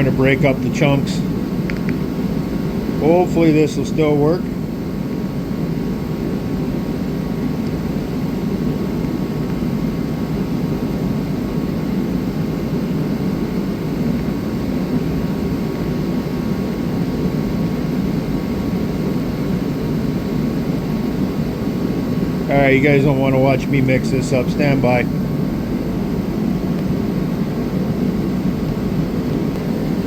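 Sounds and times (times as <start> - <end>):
fan drone: 0.0 - 30.0.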